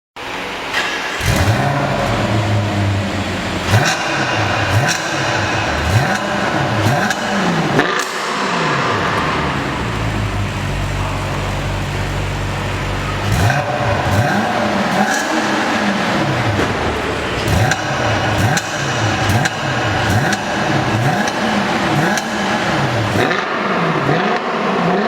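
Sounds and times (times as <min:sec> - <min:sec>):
car engine revving: 0:00.2 - 0:25.0
exhaust pops: 0:00.6 - 0:25.0.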